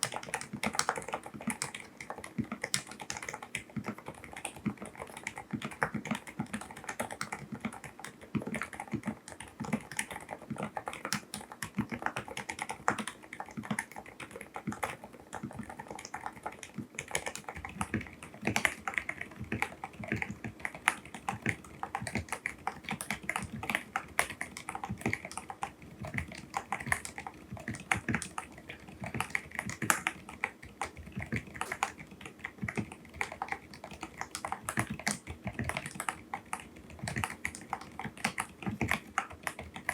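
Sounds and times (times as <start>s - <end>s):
soft keyboard keystrokes: 0.0s - 39.9s.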